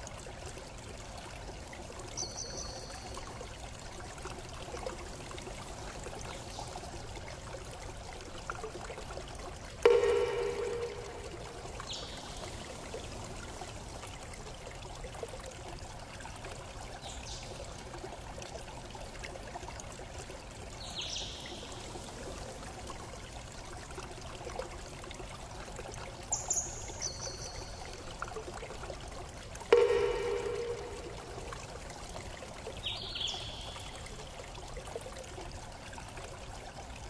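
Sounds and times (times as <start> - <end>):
flowing water: 0.0 - 37.0.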